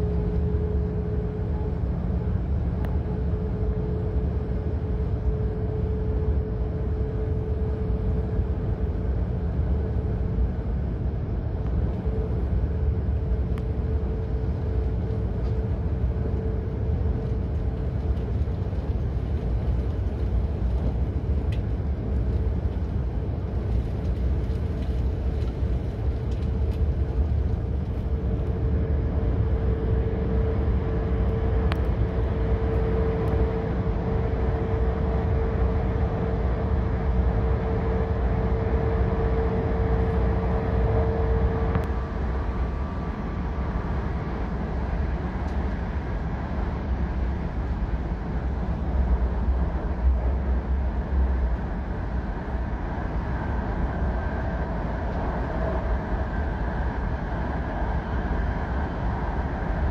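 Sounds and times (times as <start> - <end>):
train cabin low rumble: 0.0 - 59.9.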